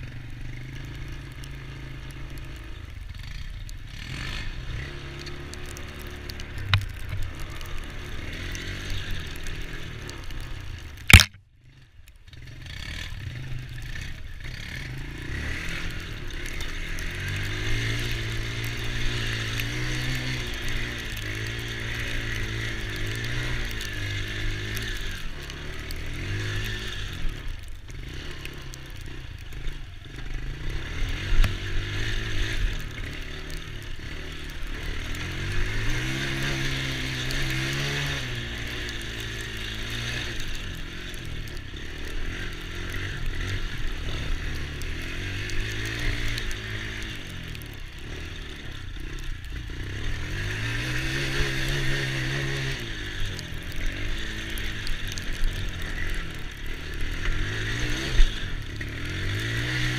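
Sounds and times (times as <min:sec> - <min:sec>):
small atv engine revving: 0:00.0 - 0:59.9.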